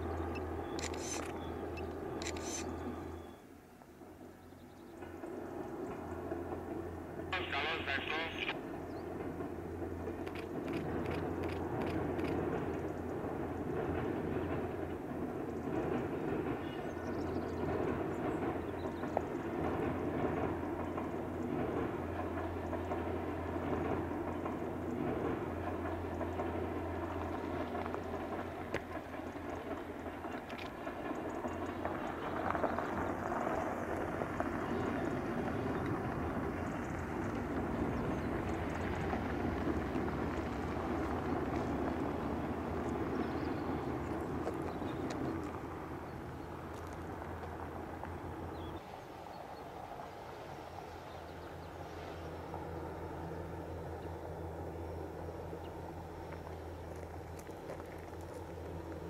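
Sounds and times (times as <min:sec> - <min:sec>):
distant train rumbling on rails: 0:00.0 - 0:59.0.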